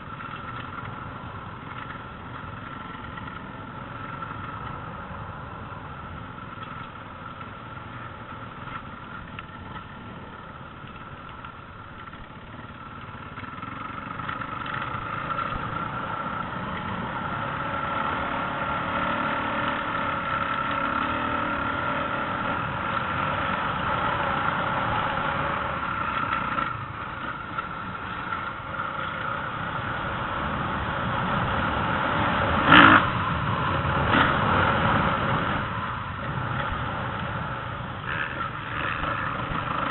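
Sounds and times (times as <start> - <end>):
motocross bike engines: 0.0 - 39.9.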